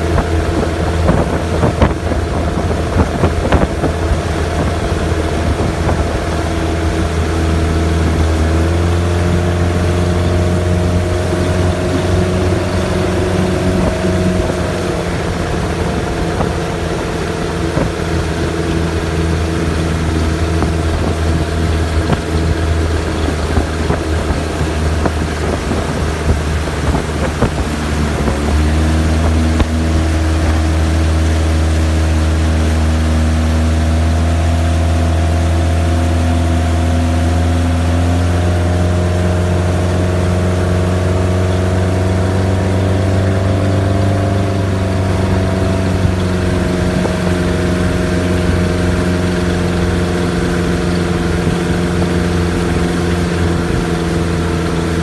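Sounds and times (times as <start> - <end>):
boat engine running: 0.0 - 55.0
rushing water: 0.0 - 55.0
wind: 0.0 - 55.0.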